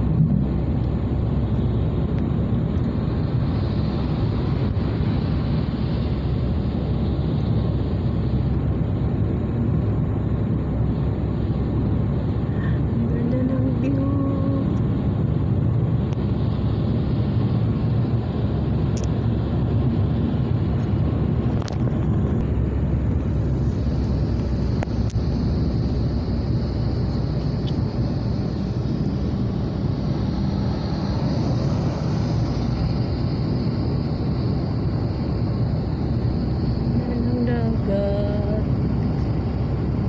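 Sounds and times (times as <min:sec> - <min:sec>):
engine drone: 0:00.0 - 0:40.0.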